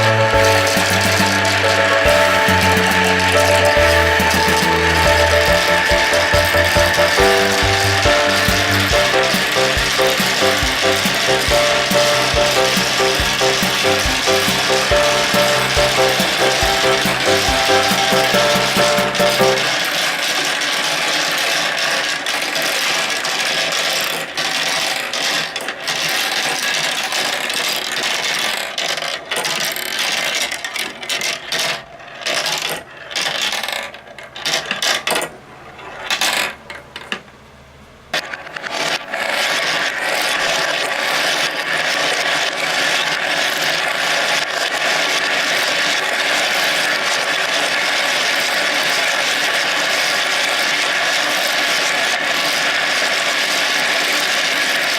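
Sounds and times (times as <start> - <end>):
marbles rattling down plastic tracks: 2.9 - 35.3, 36.0 - 37.1, 38.2 - 54.9.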